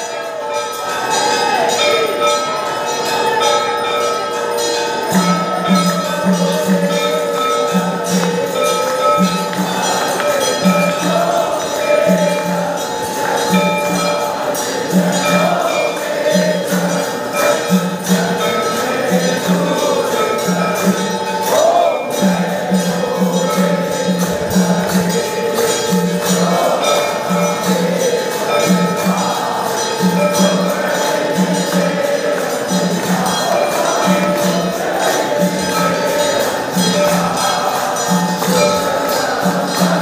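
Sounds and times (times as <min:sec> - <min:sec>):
bells ringing: 0:00.0 - 0:40.0
voices chanting: 0:00.0 - 0:40.0.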